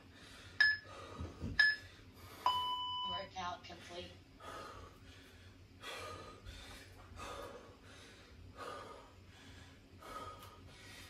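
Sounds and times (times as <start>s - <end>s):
man breathing heavily: 0.0s - 2.5s, 3.7s - 11.0s.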